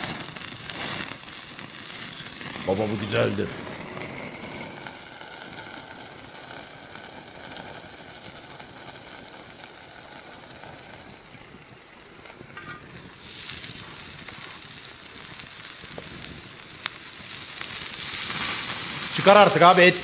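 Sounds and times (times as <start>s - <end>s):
burger patty sizzling: 0.0s - 20.0s
wood fire crackling: 0.0s - 20.0s.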